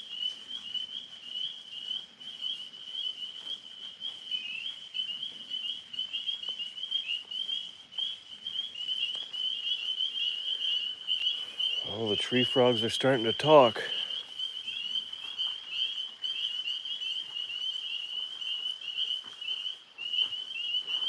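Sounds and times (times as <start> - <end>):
tree frogs chirping: 0.0 - 21.0.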